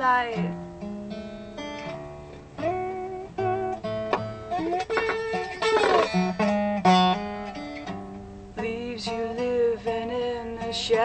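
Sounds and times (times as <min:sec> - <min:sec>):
resonator guitar plucked notes: 0:00.0 - 0:11.0.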